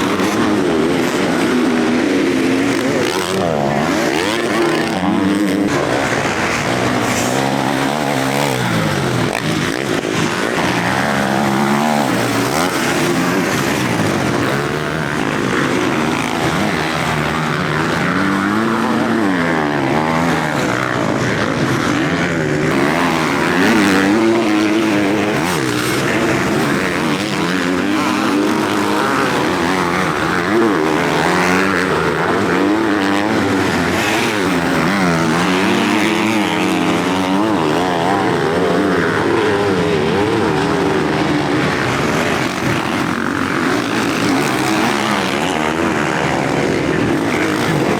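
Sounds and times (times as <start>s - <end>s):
motocross bikes revving: 0.0s - 47.9s.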